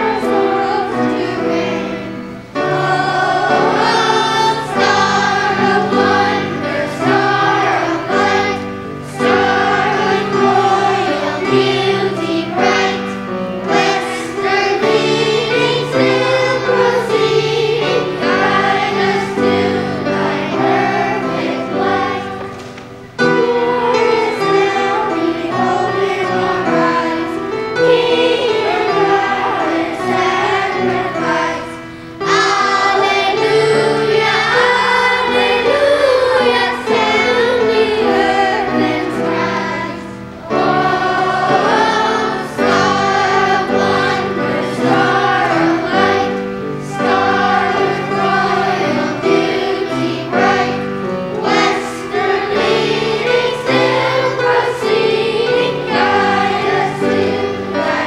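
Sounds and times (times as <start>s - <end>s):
children's choir singing a hymn: 0.0s - 58.0s.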